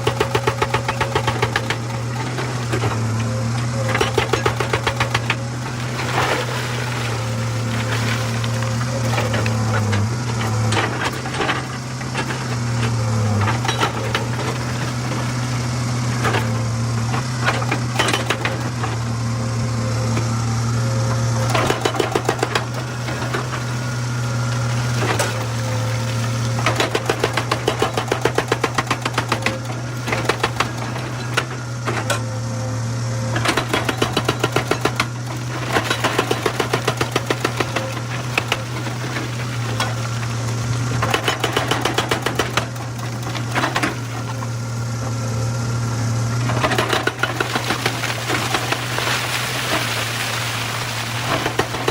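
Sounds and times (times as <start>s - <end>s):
hydraulic breaker hammering stone: 0.0s - 19.1s, 21.4s - 32.3s, 33.3s - 44.6s, 46.4s - 51.9s
diesel engine running: 0.0s - 51.9s.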